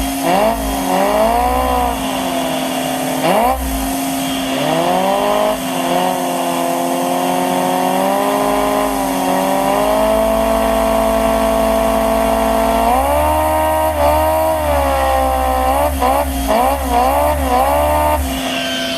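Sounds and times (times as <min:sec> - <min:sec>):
small propeller engine whining: 0:00.0 - 0:18.9.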